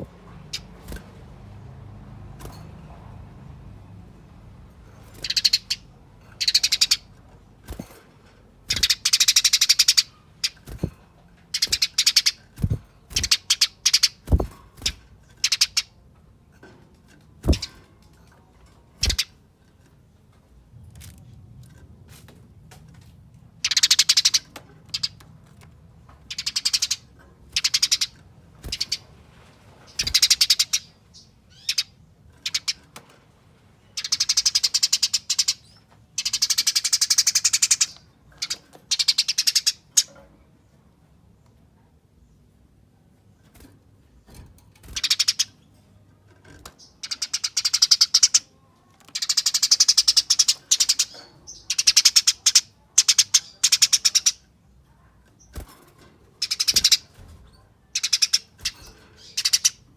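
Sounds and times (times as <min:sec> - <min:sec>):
sparrows chattering: 0:00.0 - 0:20.2, 0:23.5 - 0:33.0, 0:33.8 - 0:59.9.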